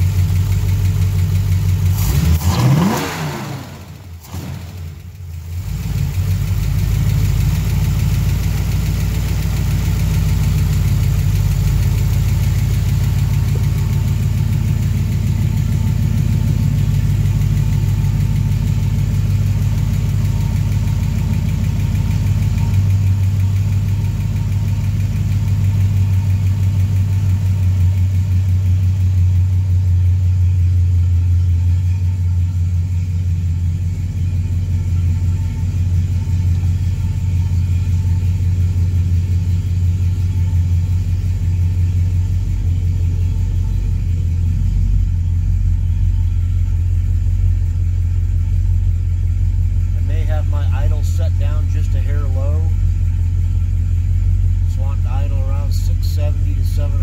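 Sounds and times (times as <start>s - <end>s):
car engine idling: 0.0s - 57.0s
engine ticking: 0.0s - 57.0s.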